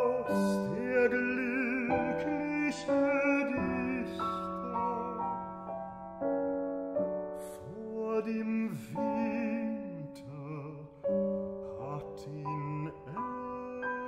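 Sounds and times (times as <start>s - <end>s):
baritone singing art song: 0.0s - 5.4s, 7.4s - 11.1s, 11.7s - 14.0s
grand piano chords: 0.0s - 14.0s.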